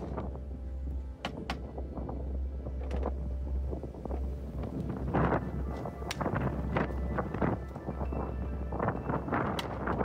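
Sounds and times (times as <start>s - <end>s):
background music: 0.0s - 10.0s
wind rumble on microphone: 0.0s - 10.0s.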